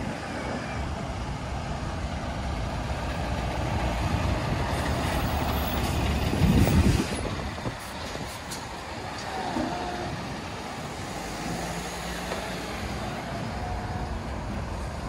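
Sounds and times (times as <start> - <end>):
lorry diesel engine driving past: 0.0 - 15.0.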